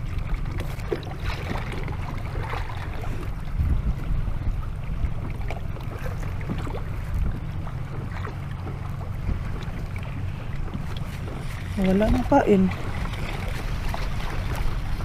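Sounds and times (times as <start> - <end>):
water splashing around boat: 0.0 - 15.0
wind buffeting microphone: 0.0 - 15.0.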